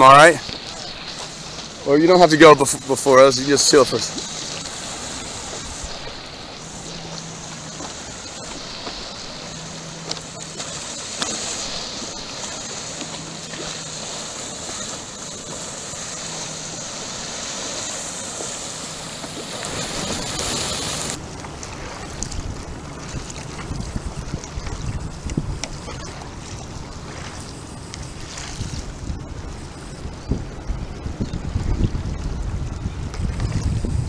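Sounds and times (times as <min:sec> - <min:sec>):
water lapping around paddleboard: 0:00.0 - 0:34.0
wind: 0:00.0 - 0:34.0.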